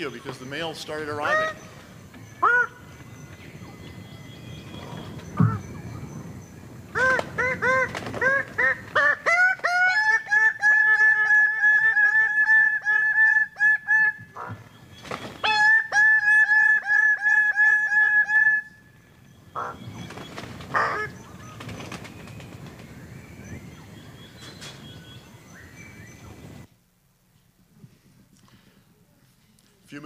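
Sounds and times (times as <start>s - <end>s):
birds honking calls: 0.0s - 26.7s.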